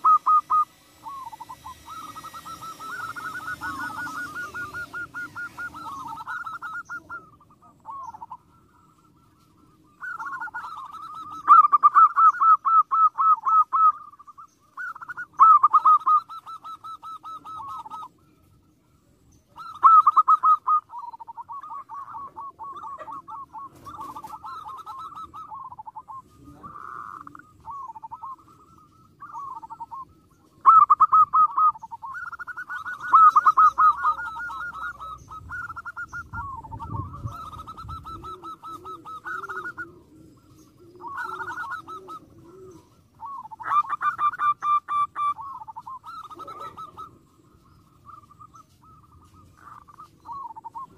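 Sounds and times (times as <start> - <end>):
dove cooing in trills: 0.0 - 50.9.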